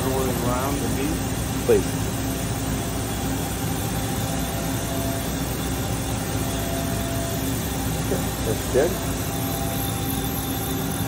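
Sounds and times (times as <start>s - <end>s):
faint steady whine: 0.0s - 11.0s
machining center mechanical hum: 0.0s - 11.0s.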